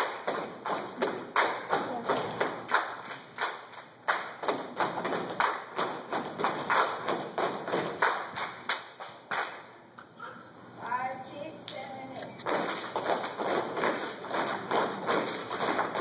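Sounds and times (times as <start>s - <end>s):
hand claps: 0.0s - 9.7s, 12.4s - 16.0s
rhythmic foot stomps: 0.0s - 9.7s, 12.4s - 16.0s.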